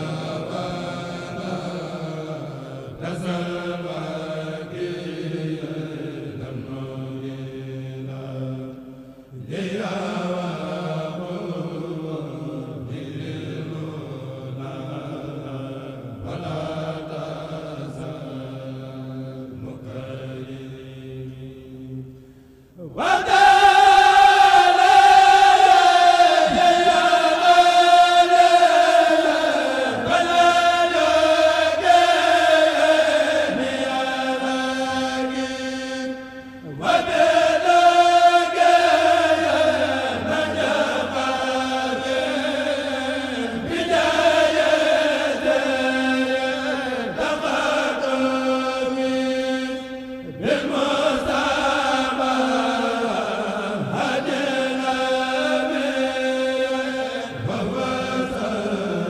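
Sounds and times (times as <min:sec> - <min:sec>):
men chanting in unison: 0:00.0 - 0:22.2, 0:22.8 - 0:59.0.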